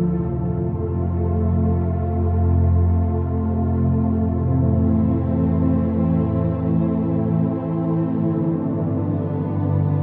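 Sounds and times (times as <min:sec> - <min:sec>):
ambient synthesizer pads: 0:00.0 - 0:10.0.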